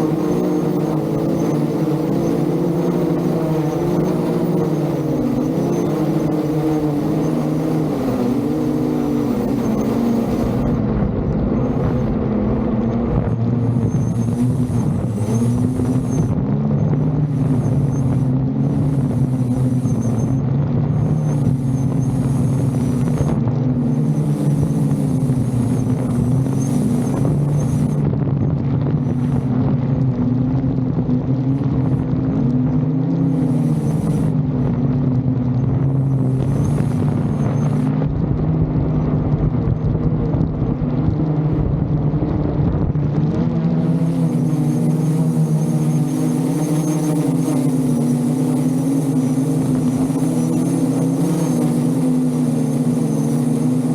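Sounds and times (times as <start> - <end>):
drone propellers humming: 0.0 - 53.9
wind rumbling on microphone: 0.0 - 53.9.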